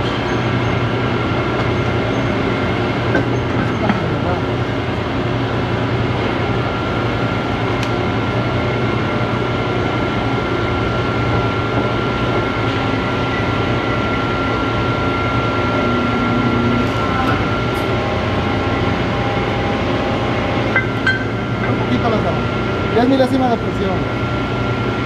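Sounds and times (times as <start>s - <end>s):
hydraulic pump humming: 0.0s - 25.0s
thin steady whine: 0.0s - 25.0s.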